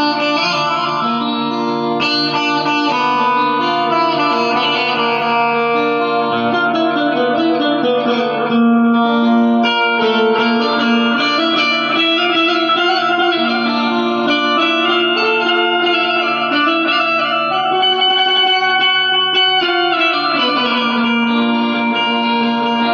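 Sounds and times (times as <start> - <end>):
plucked banjo melody: 0.0 - 22.9.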